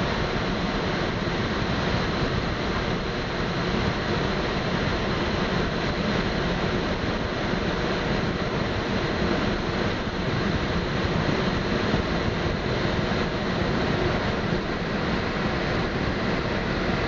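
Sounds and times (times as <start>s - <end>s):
aircraft engine drone: 0.0s - 17.0s
airflow rushing around cockpit: 0.0s - 17.0s.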